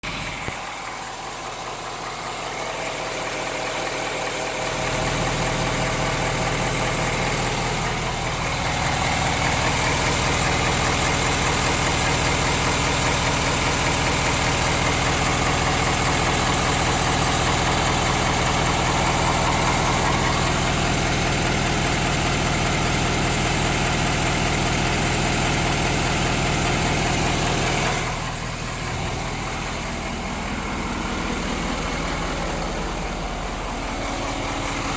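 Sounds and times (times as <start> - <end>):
diesel engine idling: 0.0 - 34.9
engine knock: 0.0 - 34.9.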